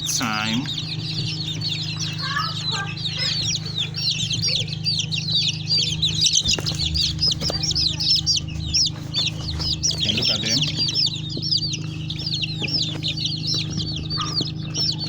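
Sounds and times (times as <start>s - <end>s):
chicks peeping: 0.0s - 15.0s
steady low hum: 0.0s - 15.0s.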